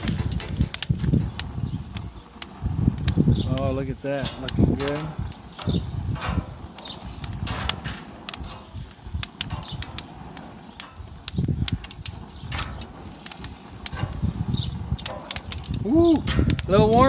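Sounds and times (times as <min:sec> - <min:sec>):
metal tongs clicking on grill: 0:00.0 - 0:17.0.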